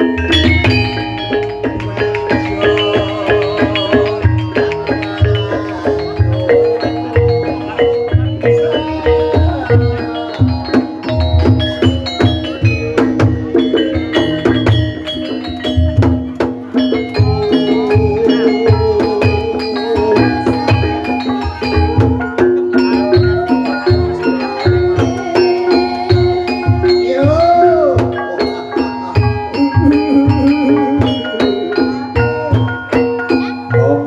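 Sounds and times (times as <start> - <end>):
hand drum beats: 0.0 - 34.0
struck mallet instrument notes: 0.0 - 34.0.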